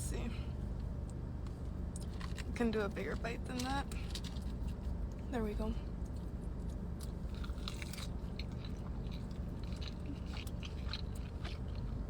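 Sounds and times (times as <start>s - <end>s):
chewing soft fries: 1.9s - 12.0s.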